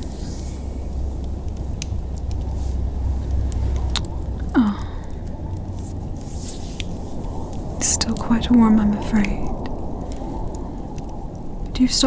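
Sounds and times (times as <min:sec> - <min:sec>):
faint clicks: 0:00.0 - 0:12.0
low wind rumble: 0:00.0 - 0:12.0.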